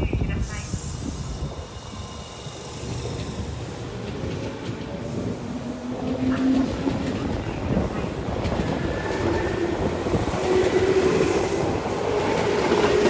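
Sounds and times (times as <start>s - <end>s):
train wheels rumbling: 0.3s - 13.0s.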